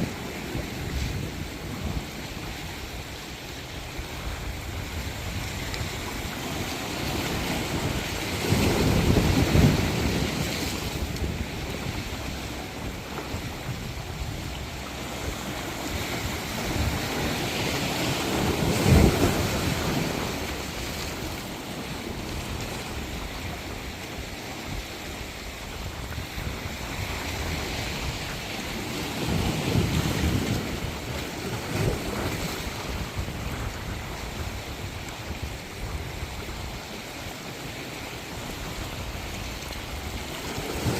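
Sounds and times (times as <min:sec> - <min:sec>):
waves washing onto shore: 0:00.0 - 0:40.9.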